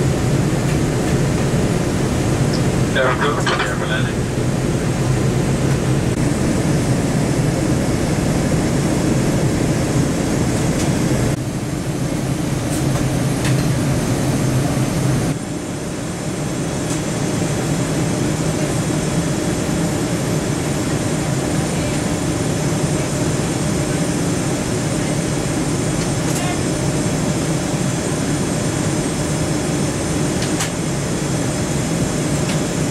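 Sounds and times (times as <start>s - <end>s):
jet cabin engine and airflow noise: 0.0s - 32.9s.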